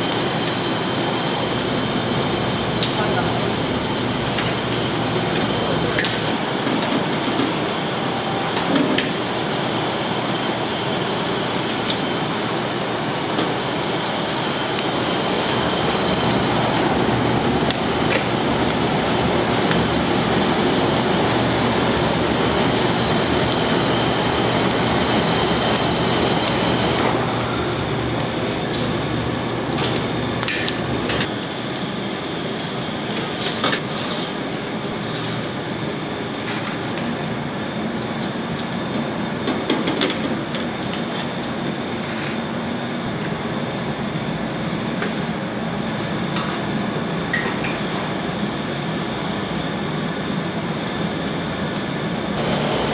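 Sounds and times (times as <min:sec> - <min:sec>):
whooshing machinery hum: 0:00.0 - 0:52.9.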